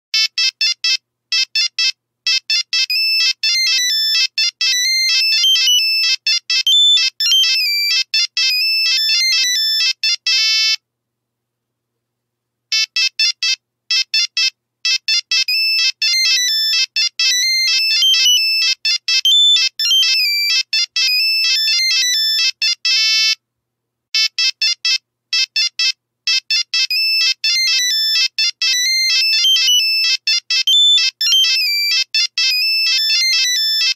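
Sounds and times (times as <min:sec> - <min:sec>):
mobile phone ringtone: 0:00.2 - 0:10.8, 0:12.7 - 0:23.4, 0:24.2 - 0:33.9.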